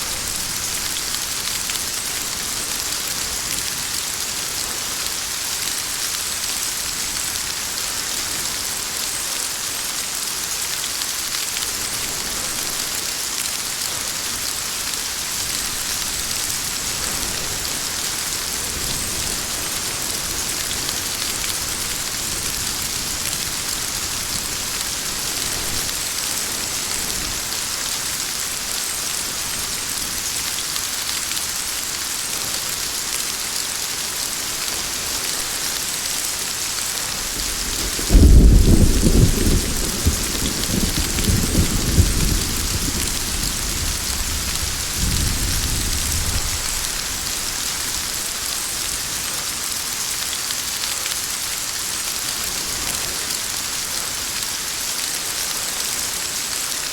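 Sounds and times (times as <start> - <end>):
rain falling steadily: 0.0 - 56.9.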